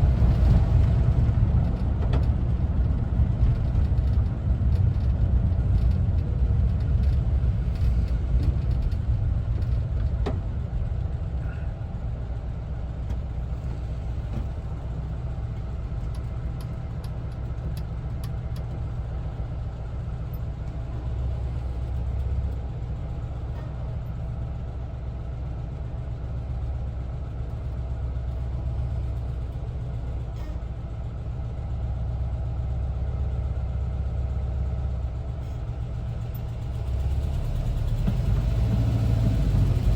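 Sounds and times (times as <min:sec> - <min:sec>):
van engine droning: 0:00.0 - 0:39.9.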